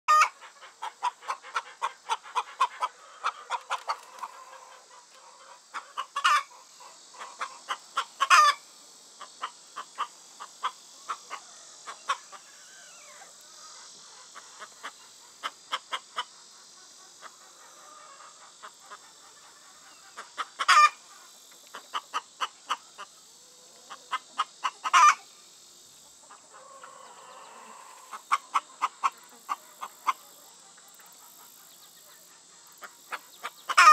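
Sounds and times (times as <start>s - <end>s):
bird clucking calls: 0.1s - 25.4s, 26.0s - 33.9s
steady high hiss: 0.1s - 33.9s.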